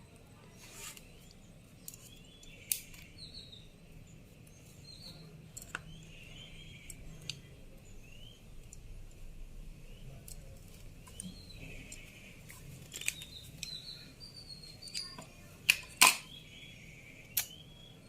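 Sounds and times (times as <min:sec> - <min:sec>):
low steady hum: 0:00.0 - 0:18.0
small birds chirping: 0:00.0 - 0:18.0.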